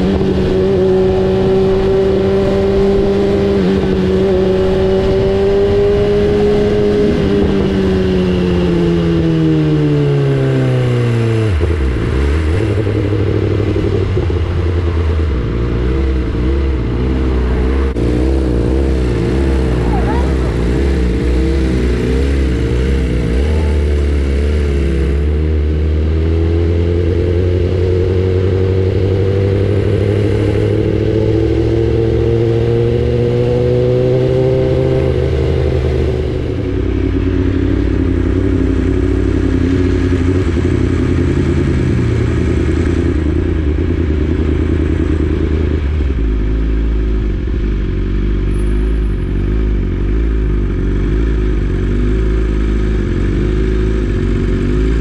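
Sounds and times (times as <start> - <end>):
sport bike engine running: 0.0 - 55.0.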